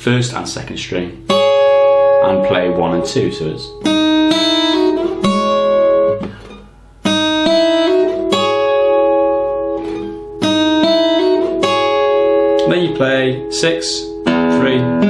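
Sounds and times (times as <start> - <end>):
fingerstyle acoustic guitar: 1.2 - 15.0.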